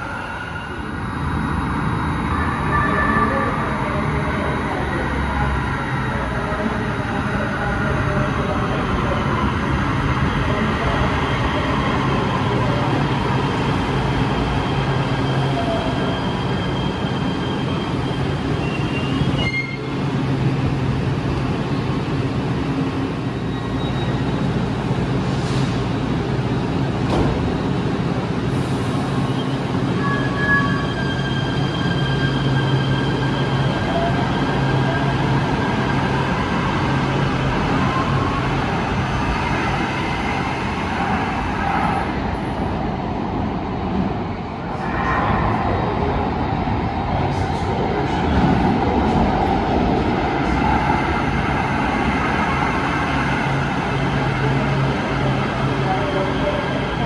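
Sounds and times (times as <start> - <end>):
light rail train rumble and hum: 0.0 - 57.0.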